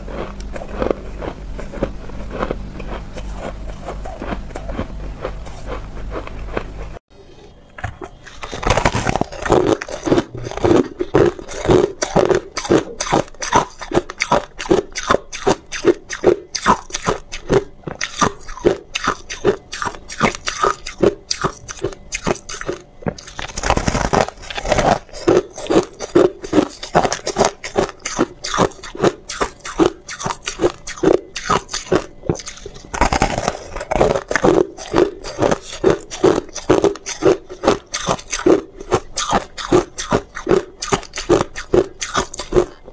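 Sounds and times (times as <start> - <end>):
person crunching ice: 8.3 - 42.8.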